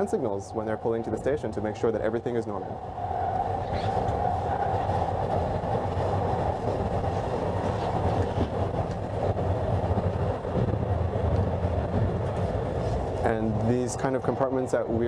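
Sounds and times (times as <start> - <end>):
train running on track: 0.0 - 15.0.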